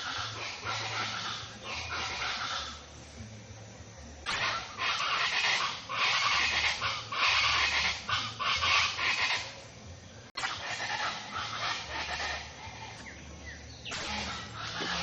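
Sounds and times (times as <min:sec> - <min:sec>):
birds singing and chattering: 0:00.0 - 0:15.0.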